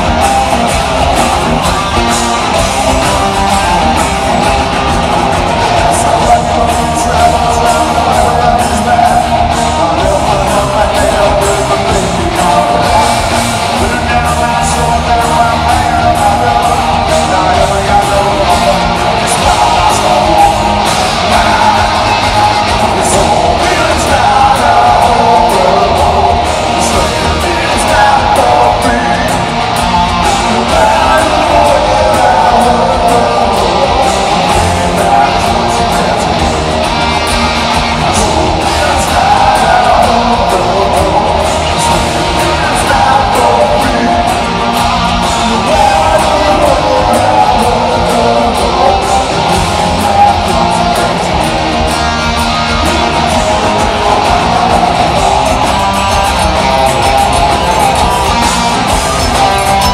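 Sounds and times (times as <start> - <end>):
hard rock band playing: 0.0 - 59.9.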